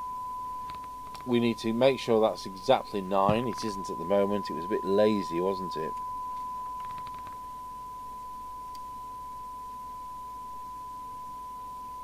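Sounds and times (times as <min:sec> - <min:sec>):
steady test tone from radio speaker: 0:00.0 - 0:12.0.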